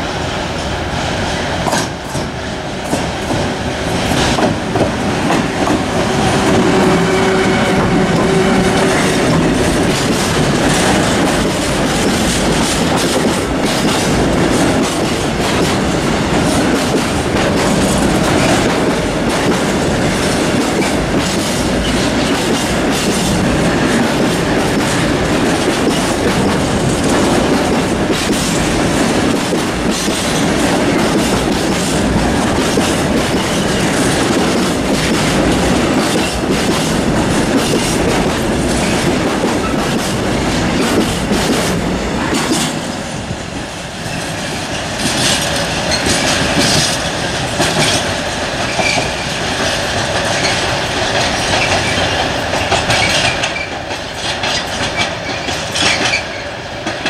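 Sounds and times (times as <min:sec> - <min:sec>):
electric locomotive passing: 0:00.0 - 0:57.0
freight train rolling rumble: 0:00.0 - 0:57.0
wheels clacking over rail joints: 0:01.6 - 0:57.0.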